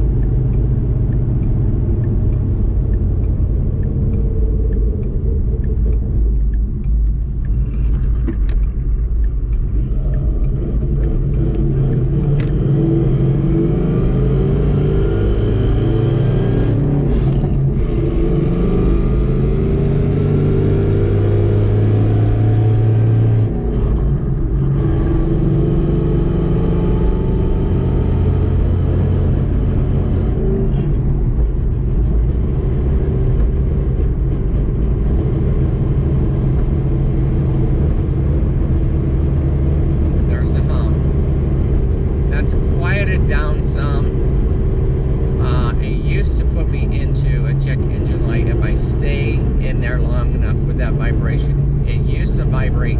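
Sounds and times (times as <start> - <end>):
car engine running: 0.0 - 52.9
manual transmission whine: 0.0 - 52.9.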